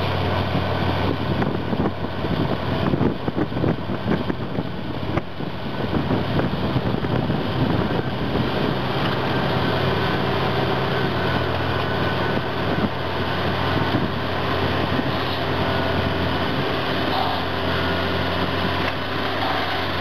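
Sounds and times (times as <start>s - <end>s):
bulldozer diesel engine under load: 0.0s - 20.0s.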